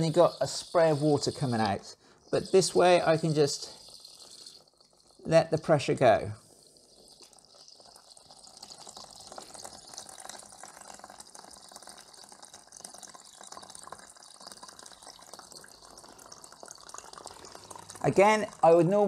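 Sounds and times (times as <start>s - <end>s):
water running and trickling: 0.0s - 19.0s.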